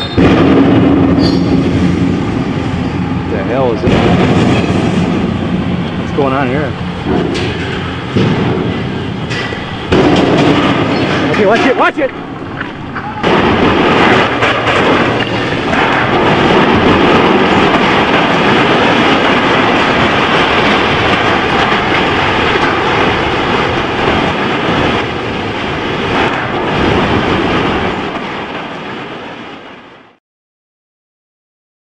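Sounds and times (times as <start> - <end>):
crane collapsing rumbling and crashing: 0.0 - 30.2.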